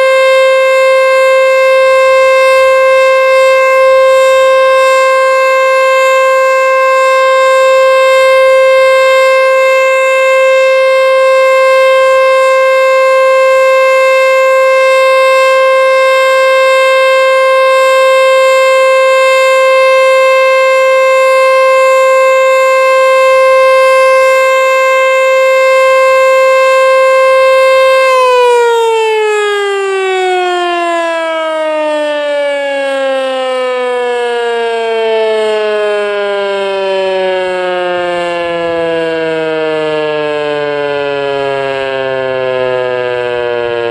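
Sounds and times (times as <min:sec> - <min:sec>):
outdoor warning siren: 0:00.0 - 0:43.9.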